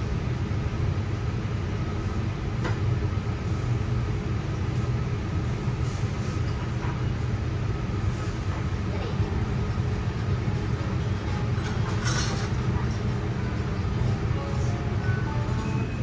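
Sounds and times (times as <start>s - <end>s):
restaurant room noise: 0.0s - 16.0s.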